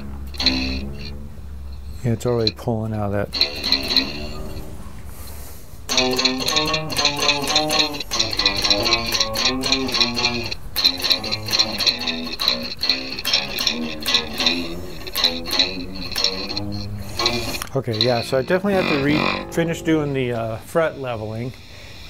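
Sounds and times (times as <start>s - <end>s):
electric nylon-string guitar playing: 0.0s - 21.9s.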